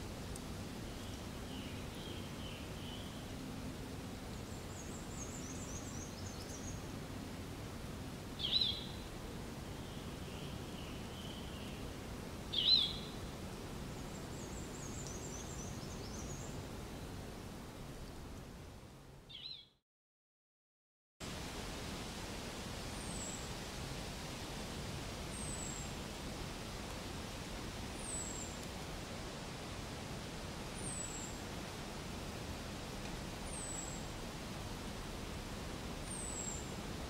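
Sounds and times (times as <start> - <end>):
steady outdoor hiss: 0.0 - 19.6, 21.2 - 37.0.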